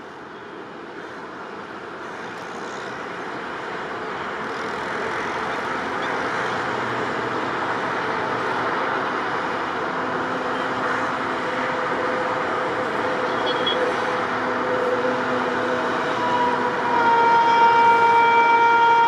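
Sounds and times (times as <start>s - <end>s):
train running on track: 0.0s - 19.0s.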